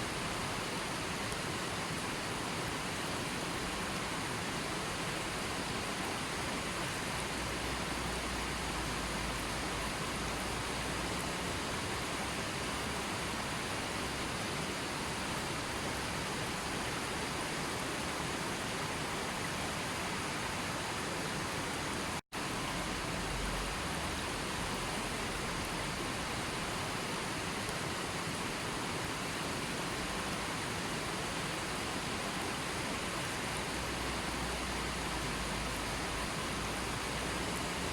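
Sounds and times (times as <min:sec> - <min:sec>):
water rushing: 0:00.0 - 0:37.9.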